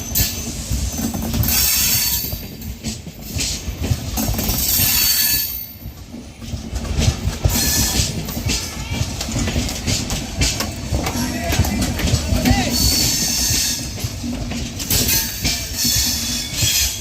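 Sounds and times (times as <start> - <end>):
train rumbling past: 0.0 - 17.0
wheels clacking on rail joints: 0.0 - 17.0.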